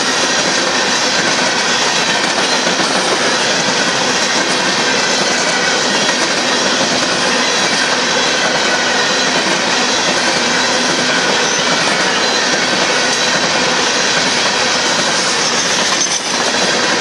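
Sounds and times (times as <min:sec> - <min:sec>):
train wheels rolling on track: 0:00.0 - 0:17.0.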